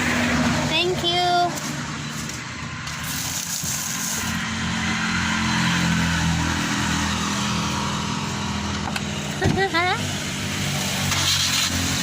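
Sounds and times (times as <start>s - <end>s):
road noise: 0.0s - 12.0s
vehicle engine accelerating: 0.0s - 12.0s.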